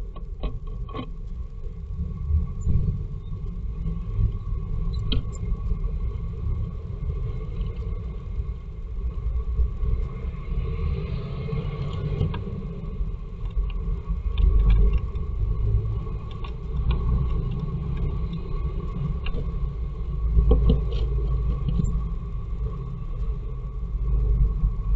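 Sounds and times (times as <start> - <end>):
low microphone rumble: 0.0 - 24.9.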